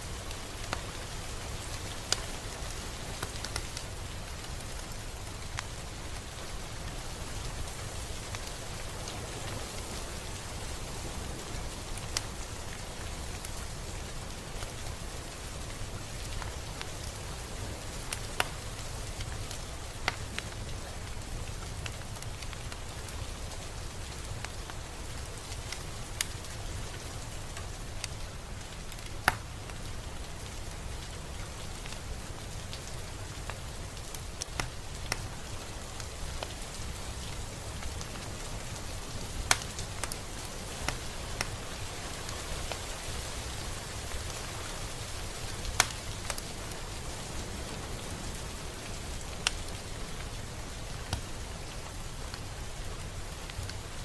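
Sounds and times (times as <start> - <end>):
gentle rain: 0.0 - 54.0.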